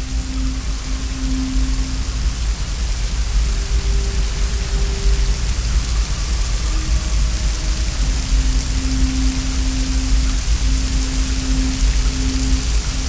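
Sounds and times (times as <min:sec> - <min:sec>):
ambient music tones: 0:00.0 - 0:13.0
waterfall rushing: 0:00.0 - 0:13.0.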